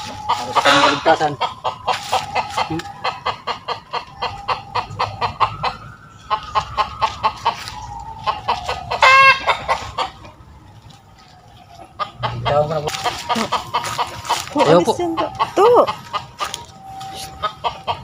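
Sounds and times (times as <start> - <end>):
drawn-out chicken call: 0.0 - 10.5, 11.3 - 18.0
chickens clucking: 0.0 - 18.0.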